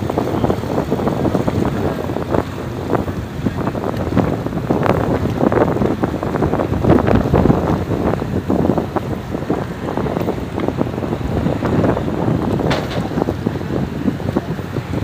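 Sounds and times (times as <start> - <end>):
sea: 0.0 - 15.0
strong wind buffeting microphone: 0.0 - 15.0.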